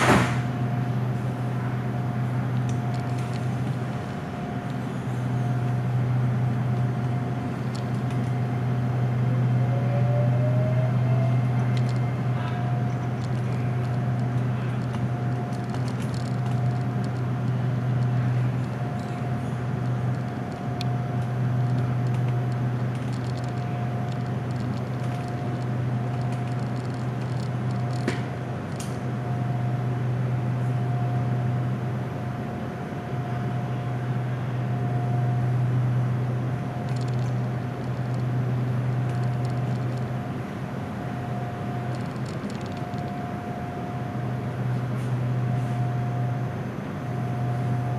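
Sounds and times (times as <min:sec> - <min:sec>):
train low hum: 0:00.0 - 0:47.9.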